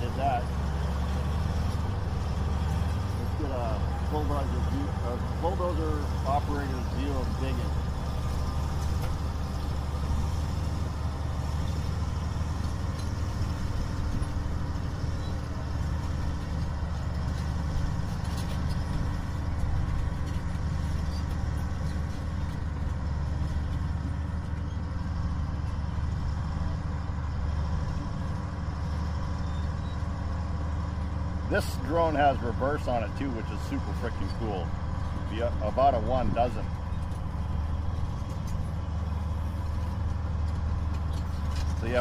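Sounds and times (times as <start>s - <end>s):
bulldozer diesel engine humming: 0.0s - 42.0s.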